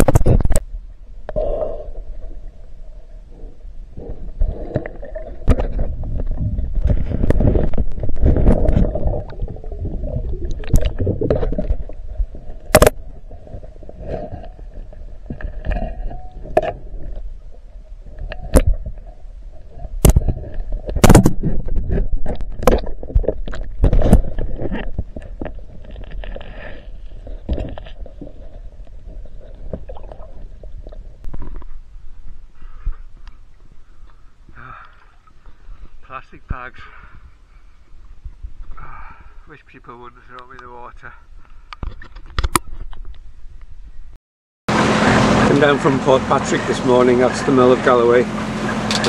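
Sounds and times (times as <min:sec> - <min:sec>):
muffled underwater rumble and gurgle: 0:00.0 - 0:44.2.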